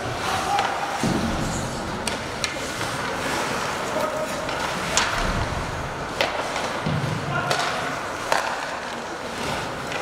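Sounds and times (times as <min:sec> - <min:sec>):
hockey sticks clacking on puck: 0:00.0 - 0:10.0.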